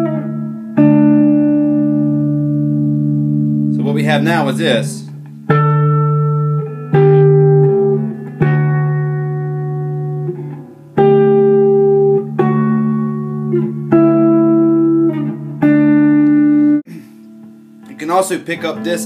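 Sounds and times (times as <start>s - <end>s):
guitar playing slow riff: 0.0s - 19.0s.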